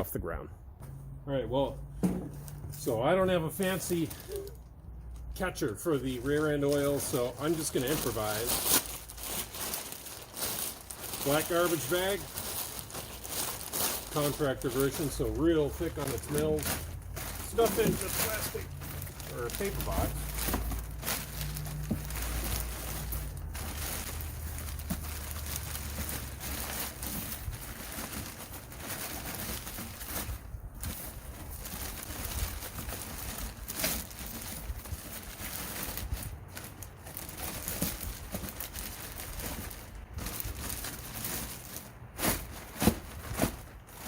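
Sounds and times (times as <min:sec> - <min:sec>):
plastic bag crinkling: 0:03.3 - 0:44.0.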